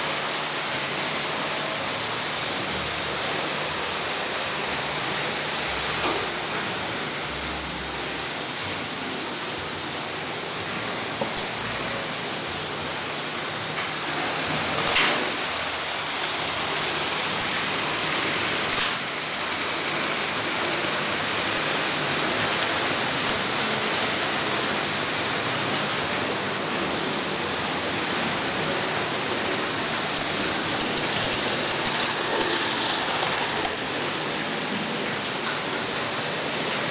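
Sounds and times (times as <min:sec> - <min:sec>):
model train wheels rolling on rails: 0:00.0 - 0:36.9.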